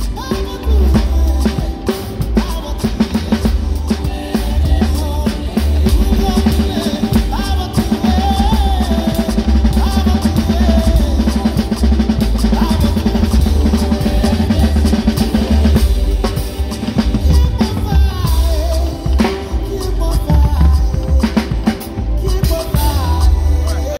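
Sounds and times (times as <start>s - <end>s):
heavy bass drum: 0.0s - 23.9s
rapid snare and tom strokes: 0.0s - 23.9s.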